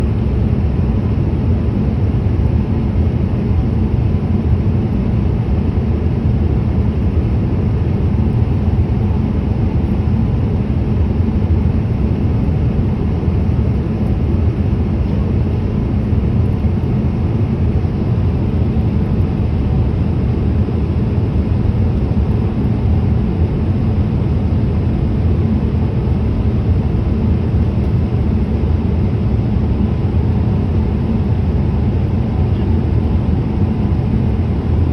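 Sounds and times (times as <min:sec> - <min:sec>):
airliner engine rumble: 0:00.0 - 0:34.9.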